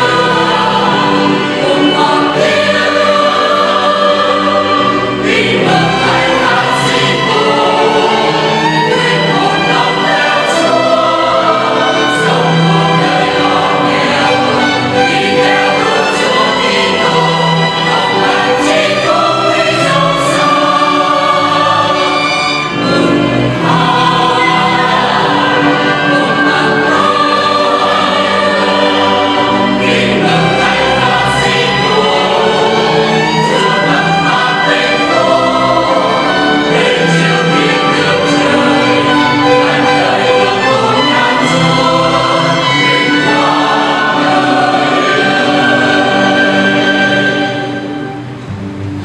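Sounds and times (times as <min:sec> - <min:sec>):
choir singing sacred music: 0:00.0 - 0:49.0
string ensemble playing: 0:00.0 - 0:49.0.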